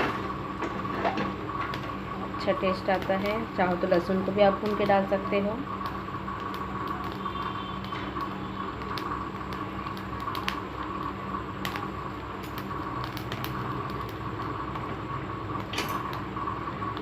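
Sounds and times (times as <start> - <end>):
gas burner flame hissing: 0.0 - 17.0
vegetables crackling and popping: 0.6 - 17.0.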